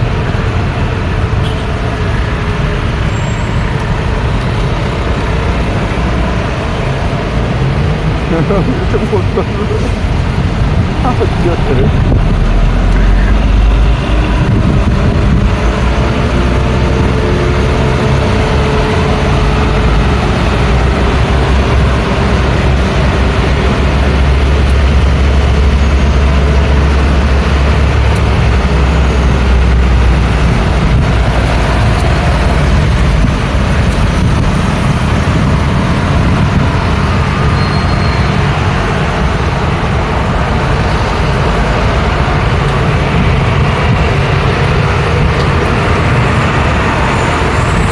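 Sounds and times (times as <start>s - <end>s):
heavy engine rumble: 0.0s - 47.9s
road traffic driving past: 0.0s - 47.9s.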